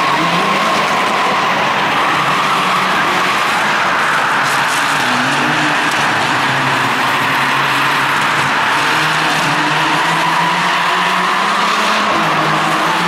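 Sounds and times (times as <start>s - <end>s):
rally car engine running hard: 0.0s - 13.0s
tyre and road noise: 0.0s - 13.0s.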